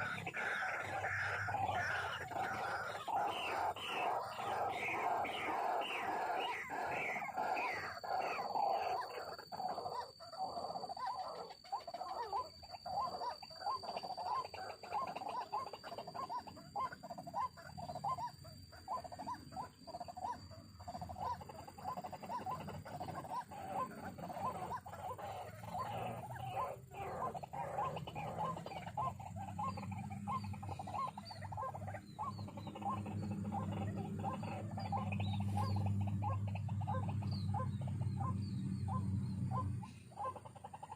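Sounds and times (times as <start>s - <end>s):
waterhen calling: 0.0s - 40.9s.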